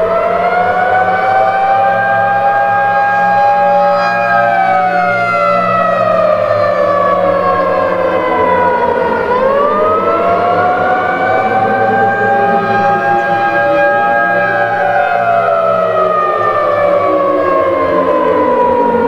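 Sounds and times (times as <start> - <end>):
civil defense siren wailing: 0.0 - 19.0.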